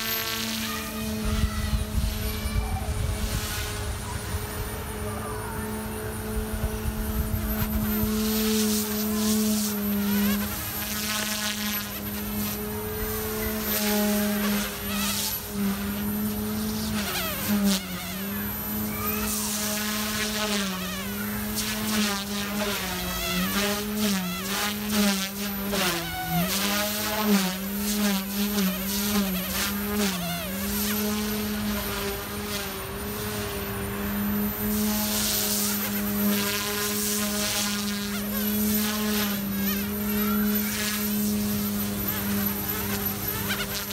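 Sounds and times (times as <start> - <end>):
rc helicopter buzzing whine: 0.0 - 43.9.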